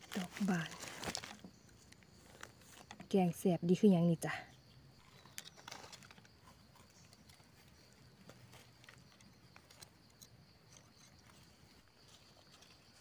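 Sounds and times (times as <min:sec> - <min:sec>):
knife and hands rustling leaves: 0:00.0 - 0:03.3, 0:05.0 - 0:13.0.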